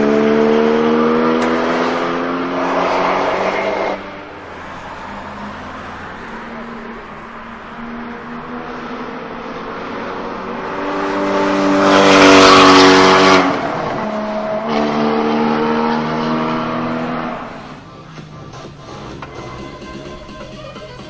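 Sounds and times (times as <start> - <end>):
sports car engine under load: 0.0 - 19.8.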